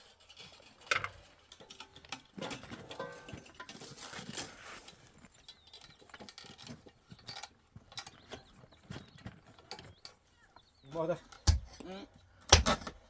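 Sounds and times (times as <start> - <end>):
knocks and scrapes of building work: 0.0 - 13.0.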